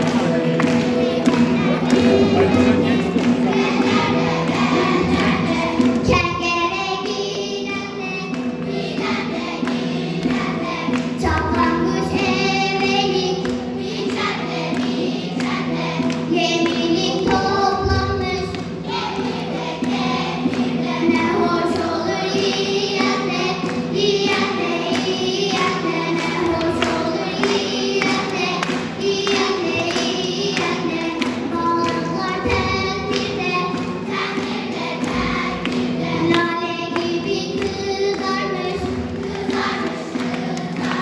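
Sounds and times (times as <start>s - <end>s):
children's choir singing: 0.0s - 41.0s
instrumental accompaniment: 0.0s - 41.0s.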